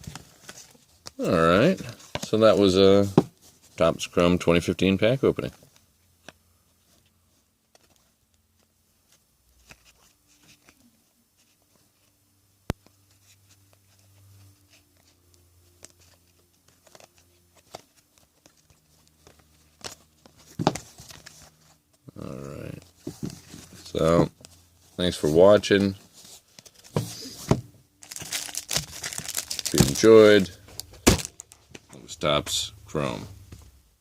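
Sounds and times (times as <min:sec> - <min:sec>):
trading cards and wrappers rustling: 0:00.0 - 0:12.2, 0:12.8 - 0:33.4.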